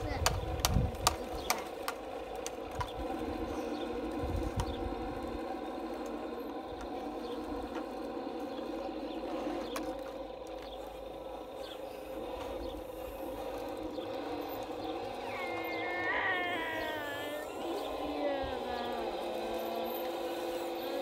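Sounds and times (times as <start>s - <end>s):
model bulldozer mechanical hum: 0.0s - 21.0s.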